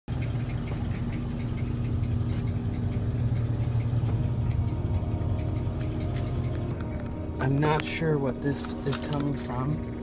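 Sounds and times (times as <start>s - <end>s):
engine idling rumble: 0.1s - 10.0s
light irregular ticking: 0.1s - 10.0s.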